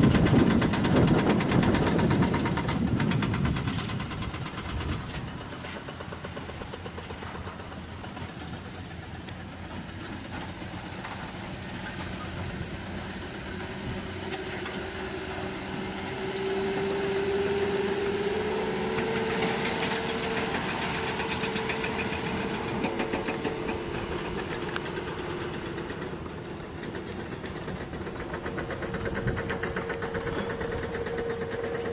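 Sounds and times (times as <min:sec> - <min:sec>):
diesel engine knocking clatter: 0:00.0 - 0:31.9.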